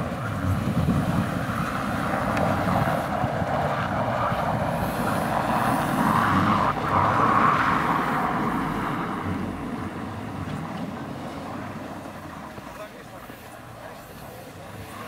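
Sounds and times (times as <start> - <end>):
car engine driving on snow: 0.0 - 15.0.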